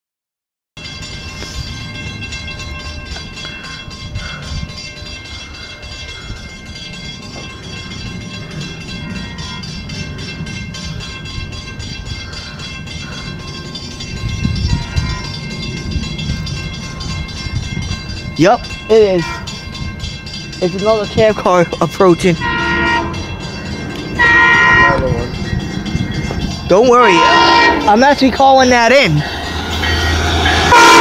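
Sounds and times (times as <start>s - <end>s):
high-pitched ringing: 0.8s - 31.0s
train rumble: 0.8s - 31.0s.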